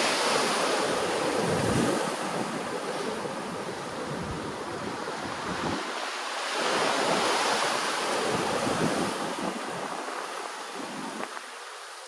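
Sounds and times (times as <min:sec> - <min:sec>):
ocean waves washing ashore: 0:00.0 - 0:12.0.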